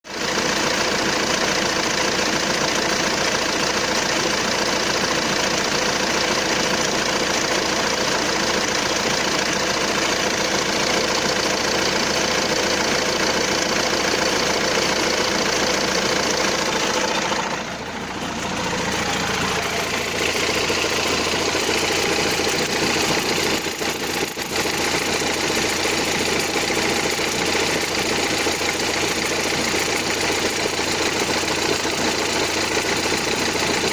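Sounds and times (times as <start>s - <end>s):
diesel engine idling: 0.1s - 33.9s
strange engine noise: 0.1s - 33.9s.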